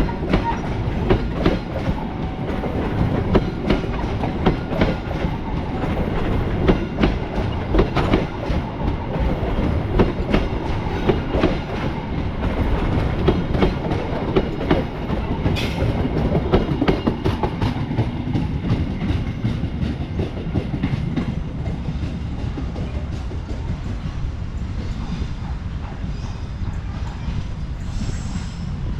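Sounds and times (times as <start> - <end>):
train wheels clickety-clack: 0.0 - 28.8
train rumble: 0.0 - 28.9.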